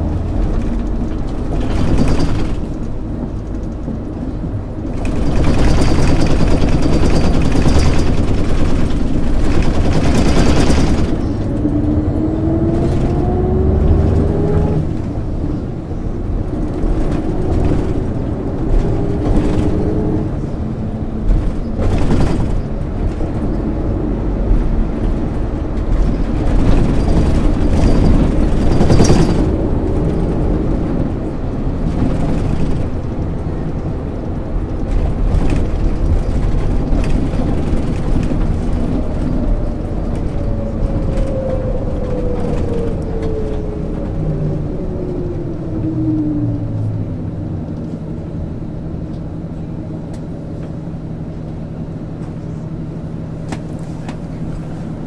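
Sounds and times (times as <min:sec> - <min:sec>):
bus diesel engine running: 0:00.0 - 0:55.0
road noise: 0:00.0 - 0:55.0.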